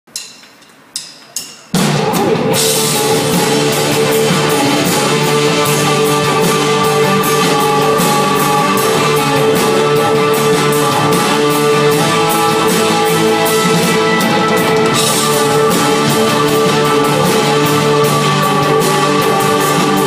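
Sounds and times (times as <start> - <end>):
pop-rock band playing: 1.8 - 20.0.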